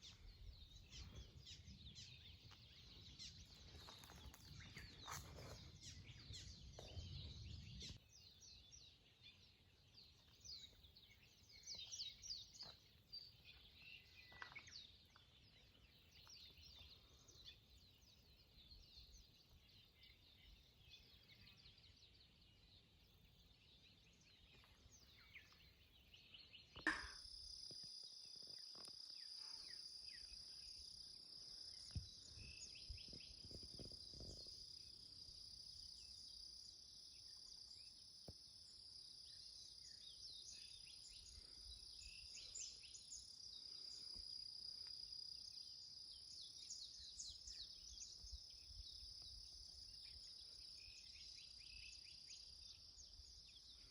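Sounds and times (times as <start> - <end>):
faint bird chirps: 0.0 - 53.9.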